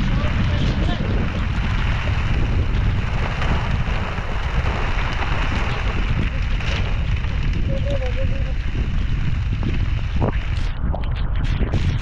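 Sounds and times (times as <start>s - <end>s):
plastic sheet rustling and flapping: 0.0s - 12.0s
wind buffeting microphone: 0.0s - 12.0s.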